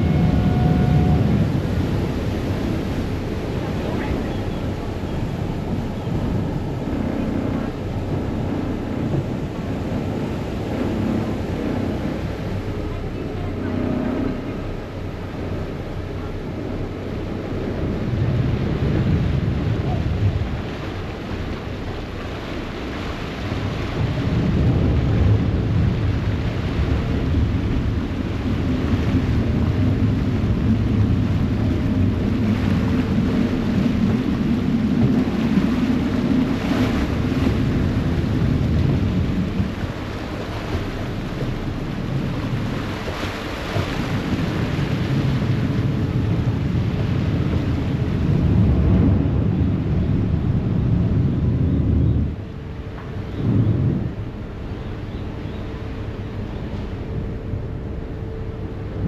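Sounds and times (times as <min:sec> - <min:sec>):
ferry engines rumbling: 0:00.0 - 0:59.0
propeller wash churning water: 0:00.0 - 0:59.0
wind on microphone: 0:00.0 - 0:59.0.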